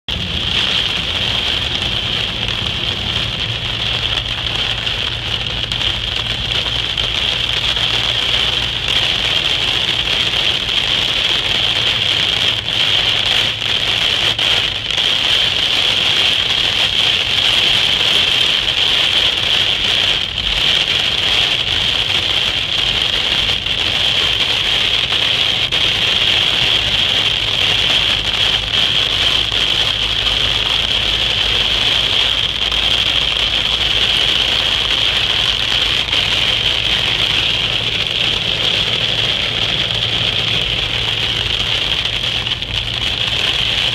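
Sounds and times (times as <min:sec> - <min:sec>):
heavy rain on car roof: 0:00.0 - 0:43.9
low hum of moving car: 0:00.1 - 0:43.9.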